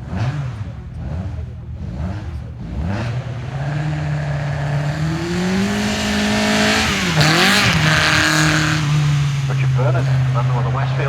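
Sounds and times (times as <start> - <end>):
car engine revving: 0.0 - 11.0
hissing tyre noise: 0.0 - 11.0.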